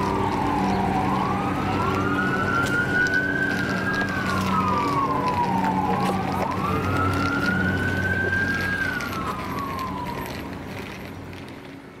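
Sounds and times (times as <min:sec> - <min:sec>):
fire engine siren wailing: 0:00.0 - 0:10.8
low engine drone: 0:00.0 - 0:10.8.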